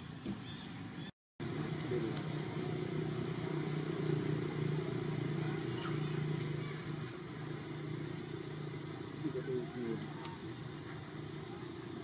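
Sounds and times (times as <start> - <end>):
engine drone: 1.4 - 12.0
high whine: 1.4 - 12.0.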